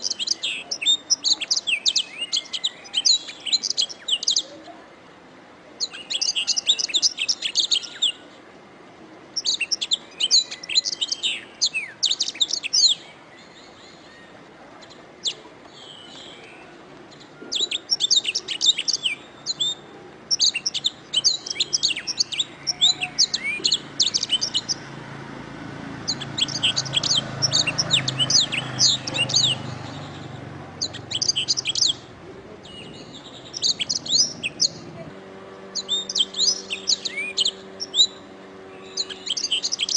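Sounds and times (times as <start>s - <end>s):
canary singing: 0.0s - 4.7s, 5.8s - 8.4s, 9.3s - 39.9s.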